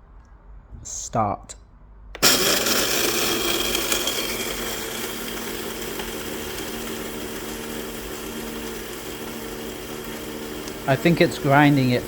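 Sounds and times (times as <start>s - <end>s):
coffee grinder grinding beans: 2.2s - 12.0s.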